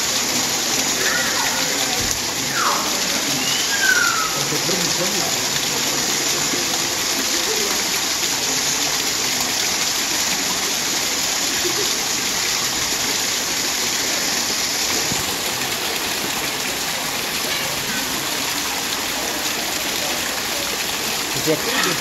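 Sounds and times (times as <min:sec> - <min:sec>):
water splashing into a pool: 0:00.0 - 0:22.0.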